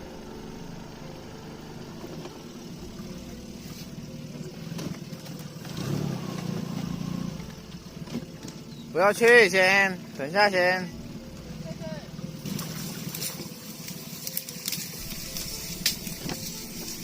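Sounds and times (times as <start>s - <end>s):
fishing boat engine running: 0.0s - 17.0s.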